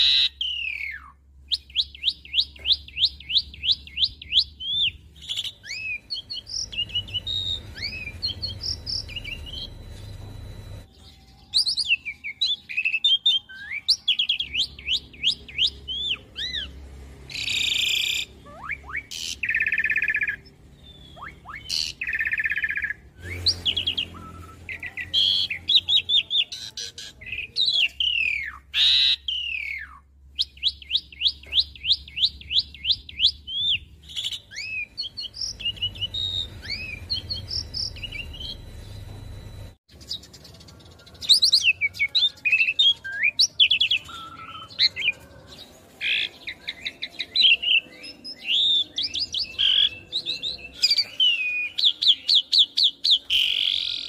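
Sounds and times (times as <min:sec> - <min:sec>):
starling singing: 0:00.0 - 0:39.2, 0:39.9 - 0:54.0.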